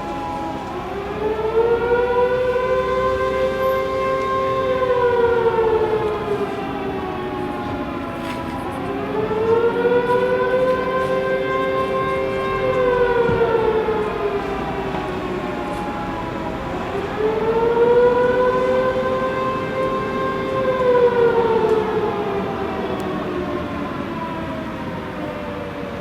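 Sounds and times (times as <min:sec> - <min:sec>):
alarm siren wailing: 0:00.0 - 0:26.0.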